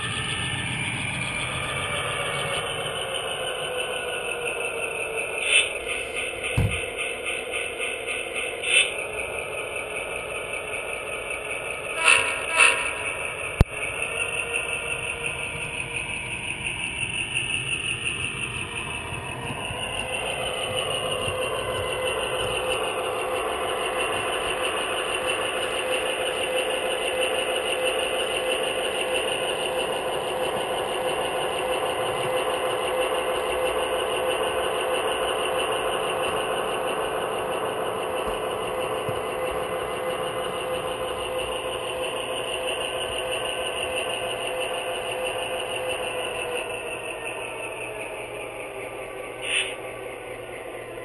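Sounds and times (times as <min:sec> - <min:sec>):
model train motor whine: 0:00.0 - 0:51.0
small wheels rattling on rail joints: 0:00.0 - 0:51.0.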